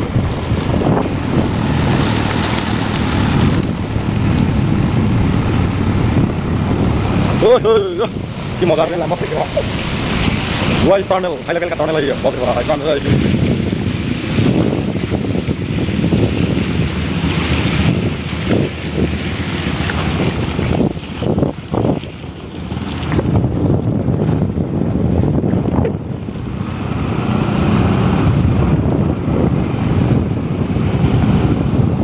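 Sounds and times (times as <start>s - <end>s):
road noise: 0.0s - 32.0s
wind buffeting microphone: 0.0s - 32.0s.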